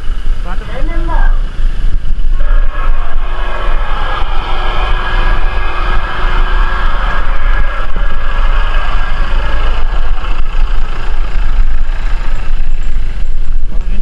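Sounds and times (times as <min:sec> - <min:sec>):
vehicle engine droning: 0:01.4 - 0:14.0.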